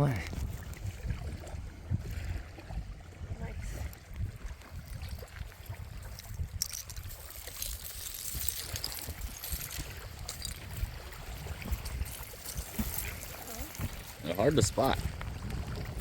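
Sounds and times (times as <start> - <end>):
small waves washing on shore: 0.0 - 16.0
wind rumble on microphone: 0.0 - 16.0.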